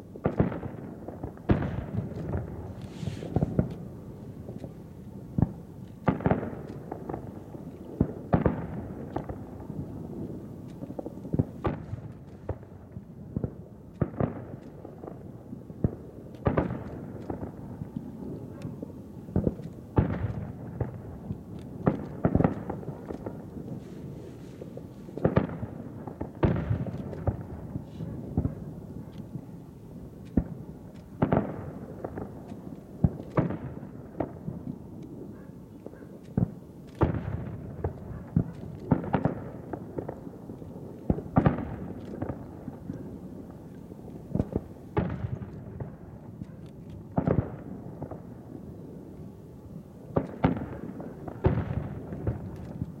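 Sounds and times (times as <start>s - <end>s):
fireworks bursting with booms: 0.0s - 53.0s.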